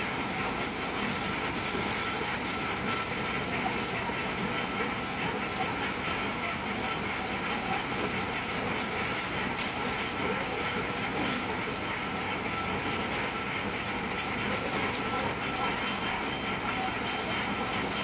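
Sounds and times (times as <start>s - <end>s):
piling machine running: 0.0s - 18.0s.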